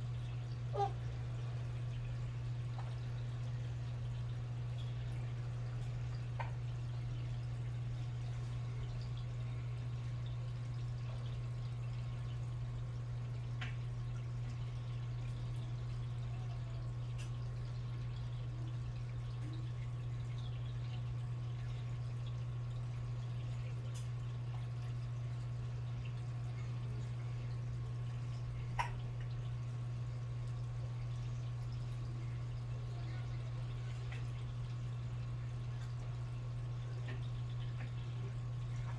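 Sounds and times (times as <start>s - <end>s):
faint drip-like plink: 0.4s - 38.9s.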